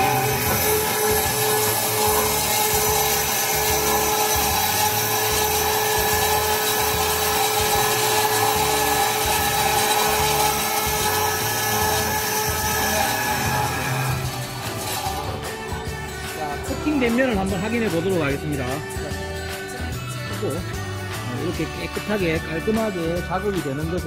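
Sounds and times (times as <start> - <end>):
cold saw cutting metal pipe: 0.0 - 23.9.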